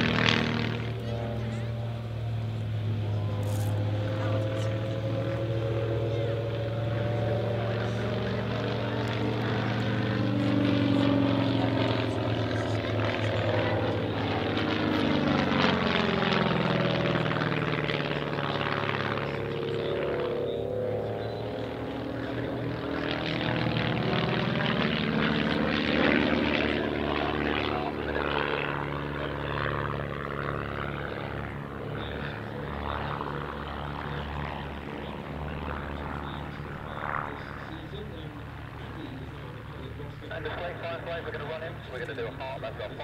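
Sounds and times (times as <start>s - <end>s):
propeller aircraft engine droning: 0.0s - 43.0s.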